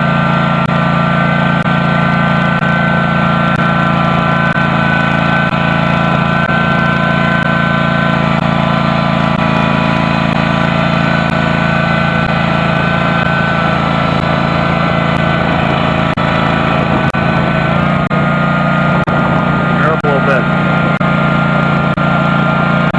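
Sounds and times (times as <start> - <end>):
garden tractor engine running: 0.0 - 22.9.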